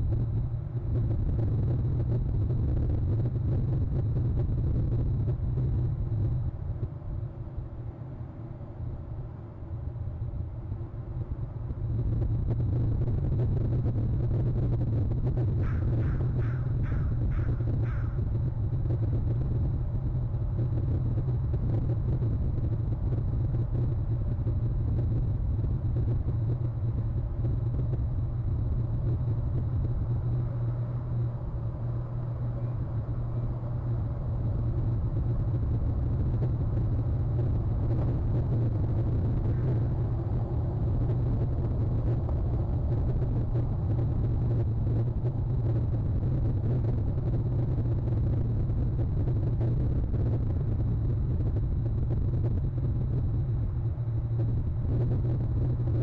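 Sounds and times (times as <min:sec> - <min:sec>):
faint high-pitched whine: 0:00.0 - 0:56.0
low outdoor rumble: 0:00.0 - 0:56.0.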